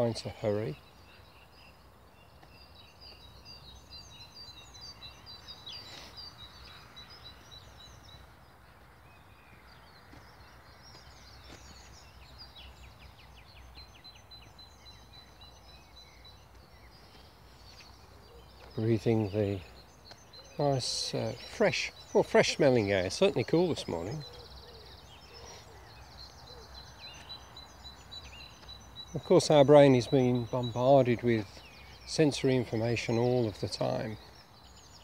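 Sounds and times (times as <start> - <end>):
bird trill: 0.0 - 35.0
small birds chirping: 0.0 - 35.0.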